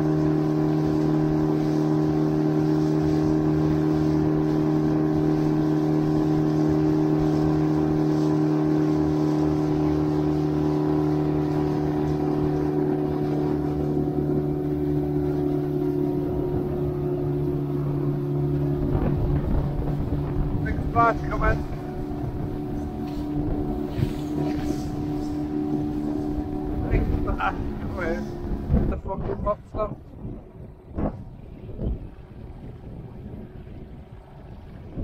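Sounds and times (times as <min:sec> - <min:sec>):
outboard motor running: 0:00.0 - 0:35.0
water rushing past hull: 0:00.0 - 0:35.0.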